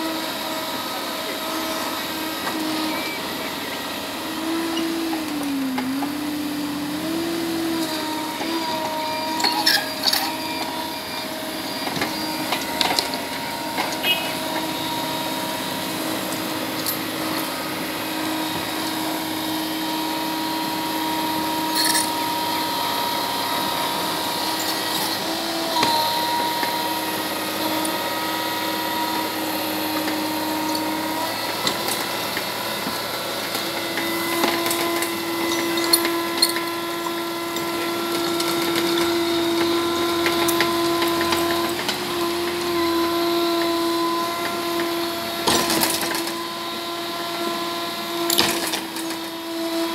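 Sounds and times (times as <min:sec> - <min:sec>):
excavator engine and hydraulics whine: 0:00.0 - 0:49.9.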